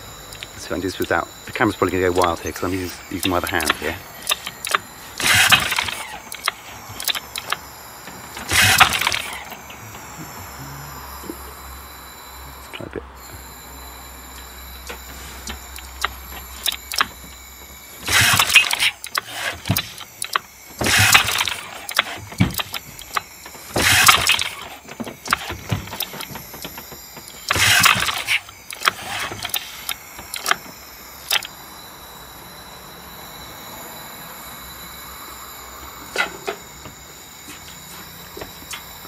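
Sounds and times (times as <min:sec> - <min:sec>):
engine cranking without catching: 0:00.0 - 0:32.4, 0:33.3 - 0:39.0
recoil starter rope whir: 0:00.0 - 0:39.0.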